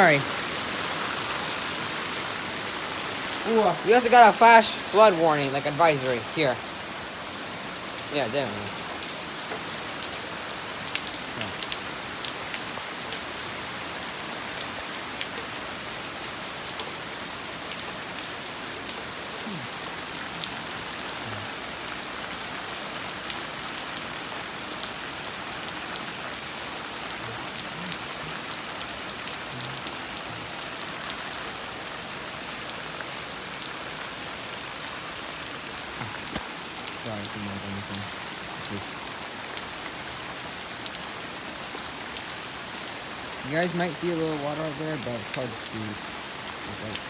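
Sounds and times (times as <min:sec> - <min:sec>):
heavy rain falling: 0:00.0 - 0:47.0
raindrops ticking on a surface: 0:00.0 - 0:47.0.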